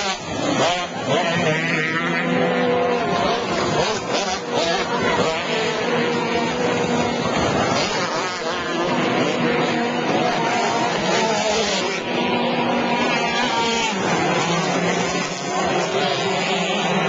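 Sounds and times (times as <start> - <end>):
outboard engines buzzing: 0.0 - 17.0.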